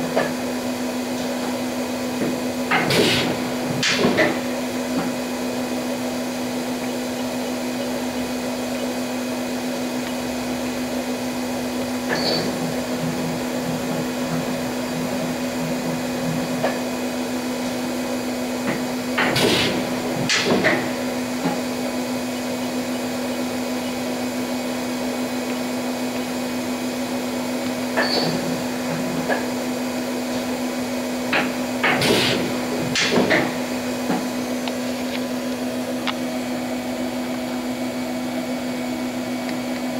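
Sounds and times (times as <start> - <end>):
machining center humming: 0.0 - 39.9.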